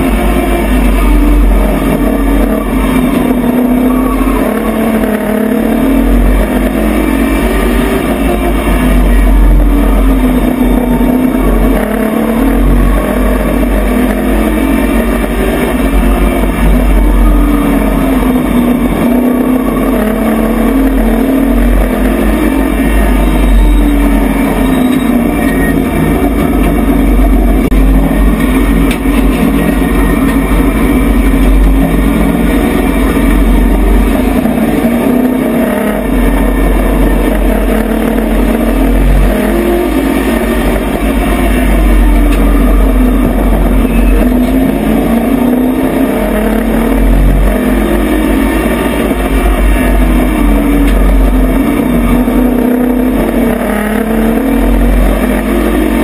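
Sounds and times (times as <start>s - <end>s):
race truck engine revving: 0.0s - 56.0s.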